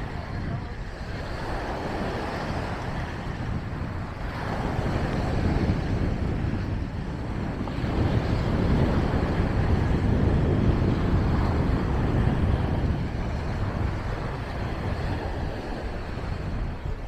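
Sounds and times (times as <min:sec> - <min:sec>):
surf: 0:00.0 - 0:17.0
wind rumbling on microphone: 0:00.0 - 0:17.0.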